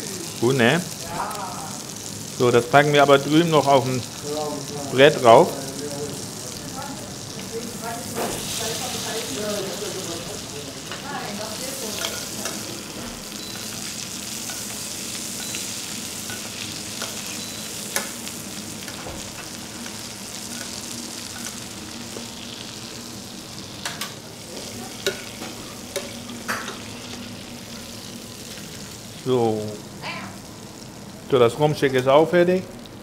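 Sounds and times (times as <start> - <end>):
steak sizzling in a frying pan: 0.0 - 33.0.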